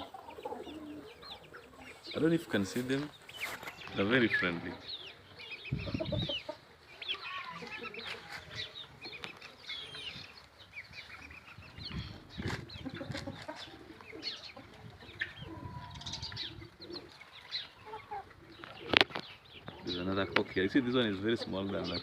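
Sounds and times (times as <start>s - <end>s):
chickens chirping and clucking: 0.0s - 22.0s.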